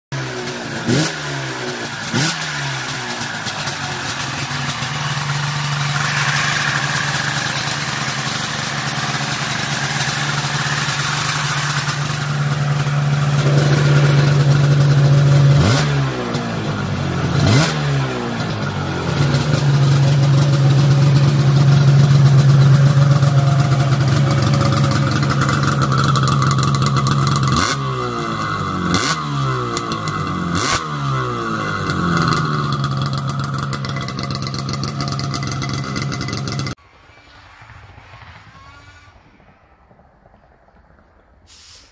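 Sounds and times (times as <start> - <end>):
snowmobile engine revving: 0.2 - 41.9.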